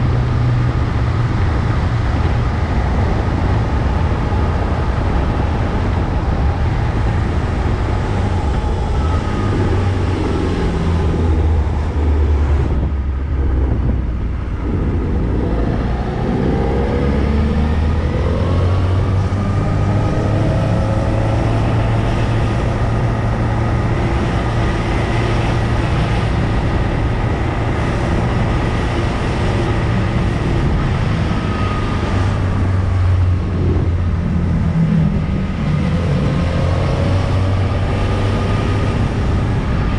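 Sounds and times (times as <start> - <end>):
motorcycle engine accelerating: 0.0 - 39.9
steady rush of noise: 0.0 - 39.9.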